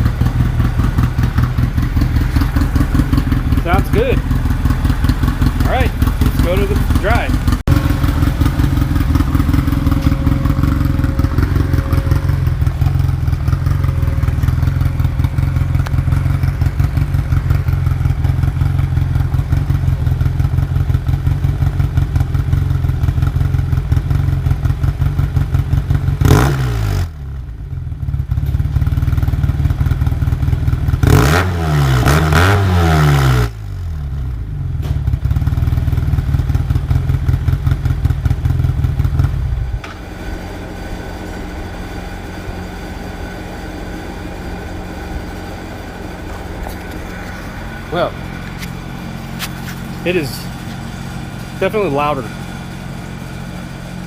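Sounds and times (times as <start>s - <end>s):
utility vehicle engine revving: 0.0s - 22.3s, 26.2s - 27.2s, 30.9s - 34.1s, 34.8s - 54.0s.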